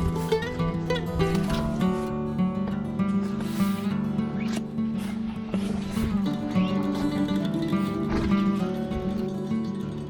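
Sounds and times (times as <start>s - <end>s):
plucked guitar-like notes: 0.0s - 3.4s, 4.1s - 10.0s.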